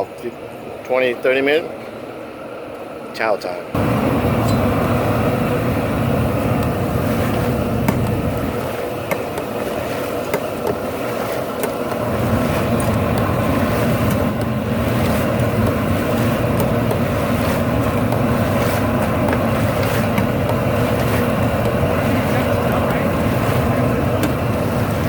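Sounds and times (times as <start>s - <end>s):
propane burner roaring: 0.0s - 25.0s.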